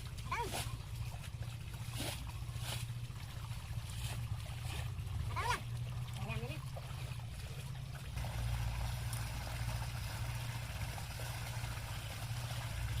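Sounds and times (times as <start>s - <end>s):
diesel pump engine humming: 0.0s - 13.0s
water rushing and splashing: 0.0s - 13.0s.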